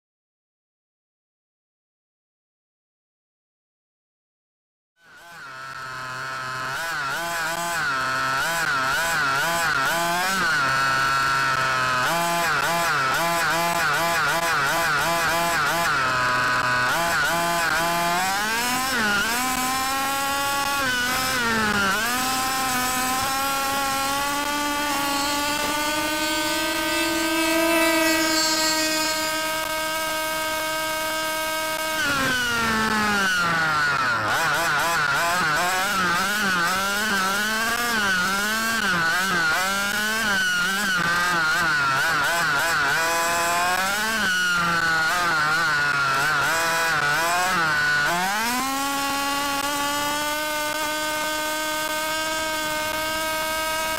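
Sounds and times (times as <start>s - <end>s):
two-stroke engine revving: 5.0s - 53.9s.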